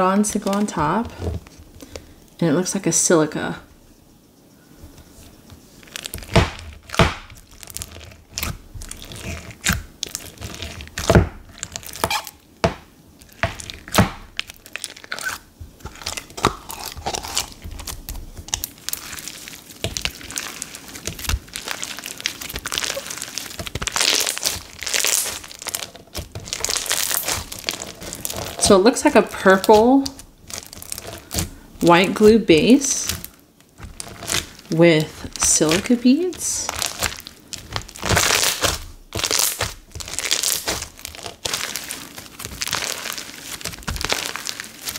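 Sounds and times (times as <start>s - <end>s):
slime popping and crackling: 0.0s - 1.9s, 5.8s - 44.9s.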